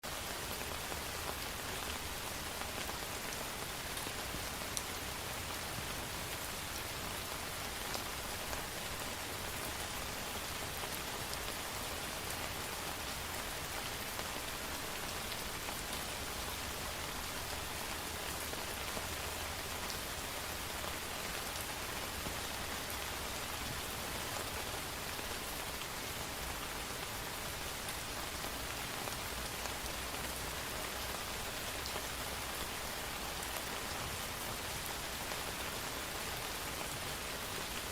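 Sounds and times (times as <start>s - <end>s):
steady rain hiss: 0.0s - 37.9s.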